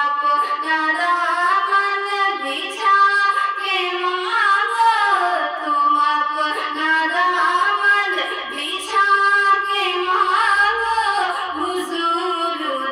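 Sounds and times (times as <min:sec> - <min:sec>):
woman singing unaccompanied: 0:00.0 - 0:12.9.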